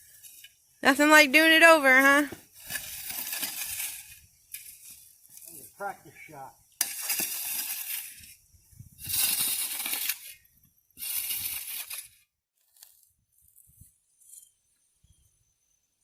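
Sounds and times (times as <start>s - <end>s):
shovel scraping sand: 0.0s - 6.2s, 6.8s - 14.5s.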